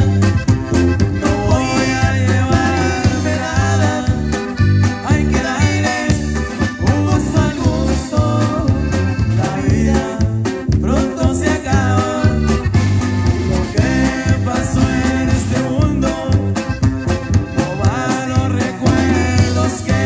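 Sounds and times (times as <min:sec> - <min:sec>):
accordion melody: 0:00.0 - 0:20.0
drum kit: 0:00.0 - 0:20.0
electric bass: 0:00.0 - 0:20.0
electric guitar: 0:00.0 - 0:20.0.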